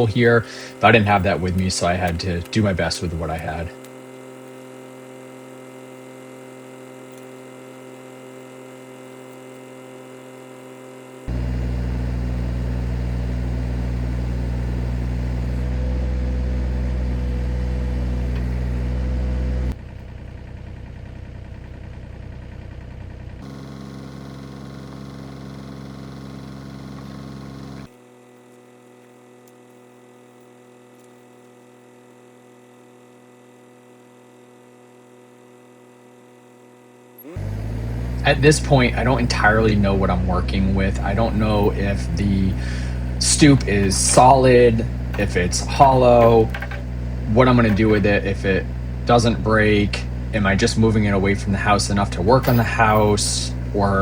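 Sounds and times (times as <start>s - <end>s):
diesel engine running: 0.0s - 28.0s, 37.2s - 54.0s.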